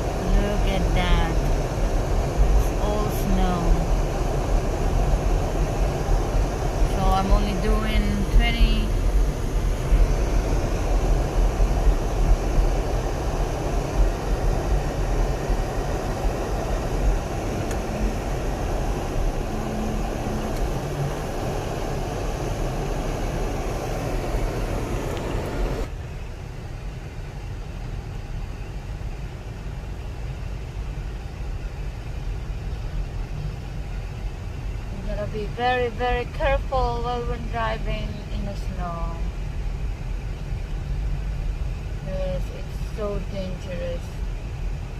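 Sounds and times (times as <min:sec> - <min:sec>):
tyres and engine rumble: 0:00.0 - 0:44.9.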